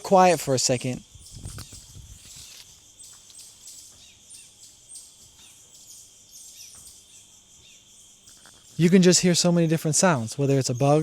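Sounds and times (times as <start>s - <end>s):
buzzy insect pulses: 0.0s - 11.0s
insect drone: 0.0s - 11.0s
bird chirps: 0.2s - 11.0s.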